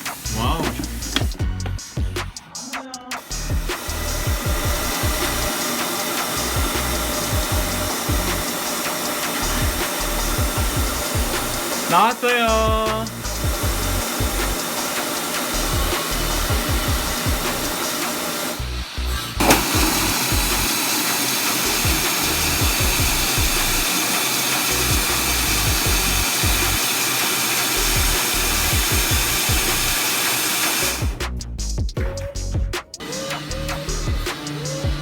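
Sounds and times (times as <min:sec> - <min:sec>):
pressurised gas hissing from pipe: 0:00.0 - 0:31.8, 0:32.9 - 0:35.0.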